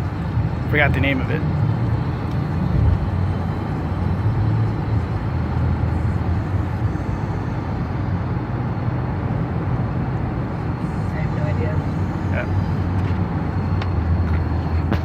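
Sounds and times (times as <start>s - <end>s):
car engine and tyres hum: 0.0s - 15.0s.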